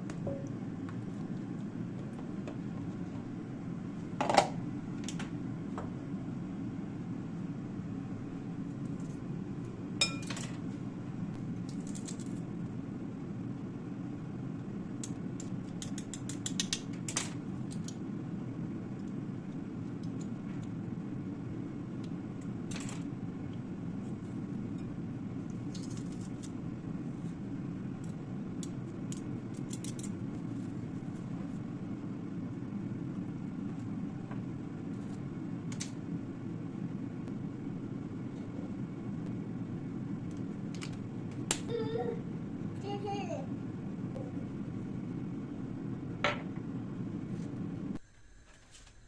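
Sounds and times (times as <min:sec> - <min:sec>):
low fan hum: 0:00.0 - 0:49.0.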